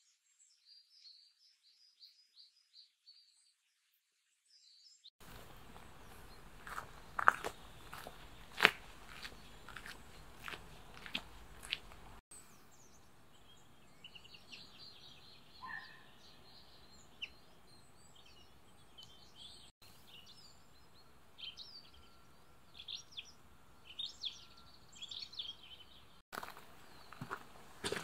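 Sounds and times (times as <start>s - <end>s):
songbirds chirping: 4.2s - 28.0s.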